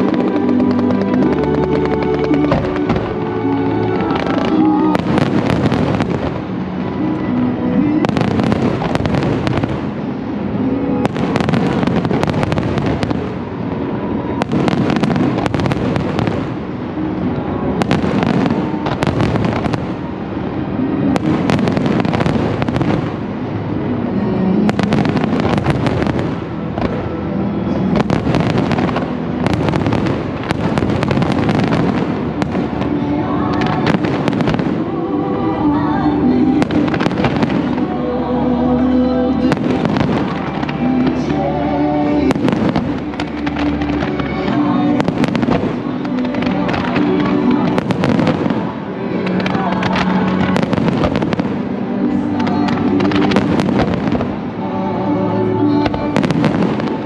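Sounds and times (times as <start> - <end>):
fireworks bursting and crackling: 0.0 - 57.0
music playing: 0.0 - 57.0.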